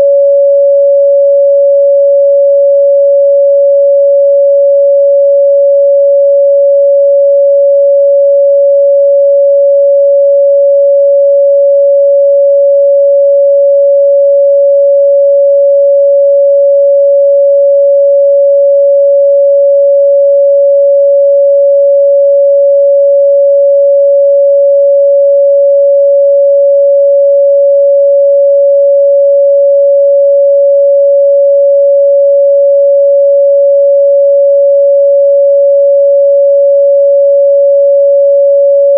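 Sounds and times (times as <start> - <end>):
sine wave test tone: 0.0 - 38.9.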